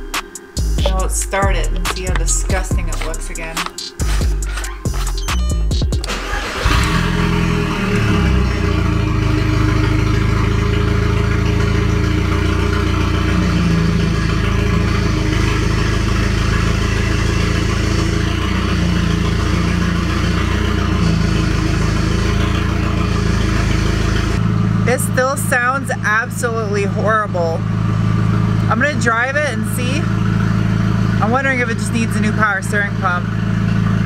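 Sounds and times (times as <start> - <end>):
car engine starting and idling: 0.0 - 34.0
constant whine: 0.0 - 34.0.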